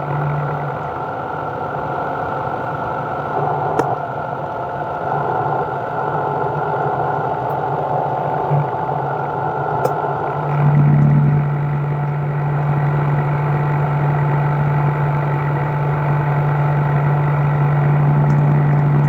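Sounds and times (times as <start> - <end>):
workshop machine motor running: 0.0 - 19.0.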